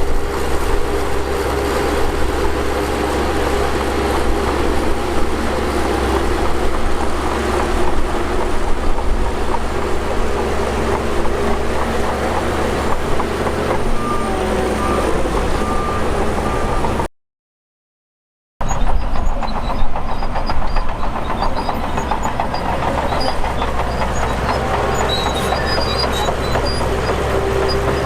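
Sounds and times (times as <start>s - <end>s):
bulldozer diesel engine running: 0.0s - 17.1s, 18.6s - 28.0s.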